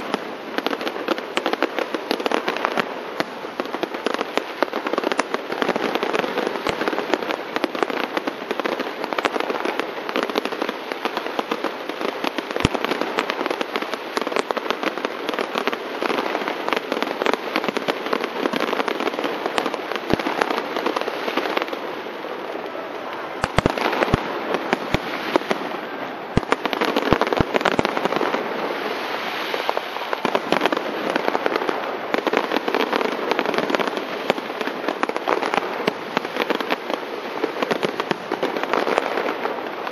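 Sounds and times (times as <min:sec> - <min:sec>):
fireworks crackling: 0:00.0 - 0:39.9
loud firework bangs: 0:00.0 - 0:39.9.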